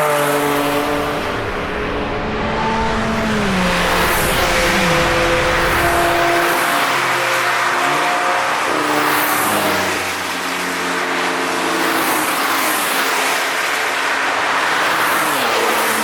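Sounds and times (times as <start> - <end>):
race cars passing by: 0.0 - 16.0
tyre and road noise: 0.0 - 16.0.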